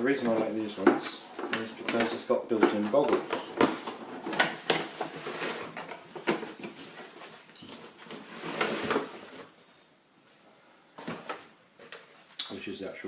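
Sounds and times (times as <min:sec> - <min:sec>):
plastic helmet being handled: 0:00.0 - 0:09.6, 0:11.0 - 0:12.4.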